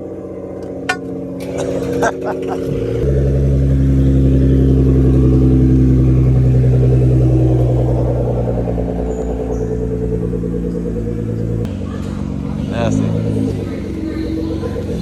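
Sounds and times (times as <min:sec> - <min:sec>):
car engine fast idle: 0:00.6 - 0:15.0.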